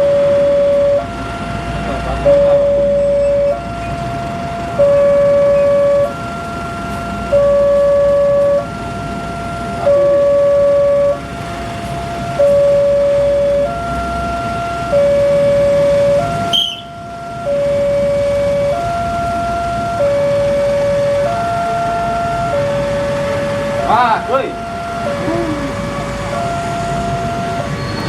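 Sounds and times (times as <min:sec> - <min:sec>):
level crossing two-tone alarm: 0:00.0 - 0:28.0.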